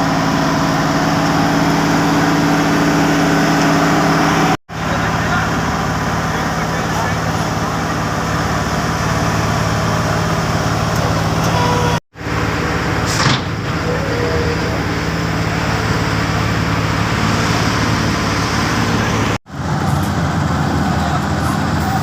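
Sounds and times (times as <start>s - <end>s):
heavy diesel machinery humming: 0.0s - 22.0s.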